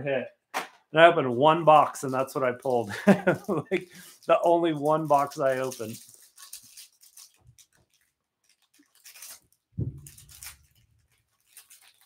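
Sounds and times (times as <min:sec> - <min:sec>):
plastic wrapper crinkling: 0:01.7 - 0:12.0.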